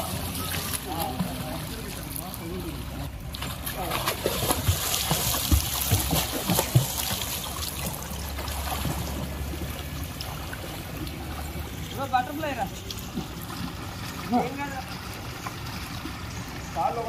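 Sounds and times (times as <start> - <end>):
water splashing from swimming: 0.0 - 17.0.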